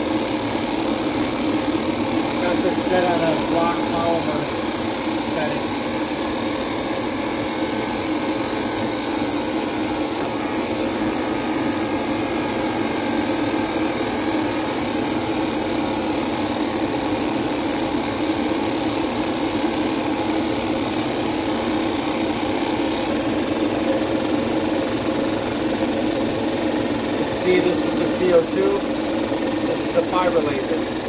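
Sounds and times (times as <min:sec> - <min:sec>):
machinery humming with hiss: 0:00.0 - 0:31.0.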